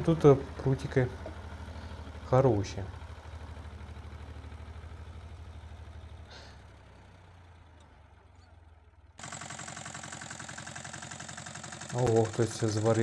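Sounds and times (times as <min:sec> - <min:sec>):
tractor engine under load: 0:00.0 - 0:13.0
walk-behind tractor engine: 0:00.0 - 0:13.0.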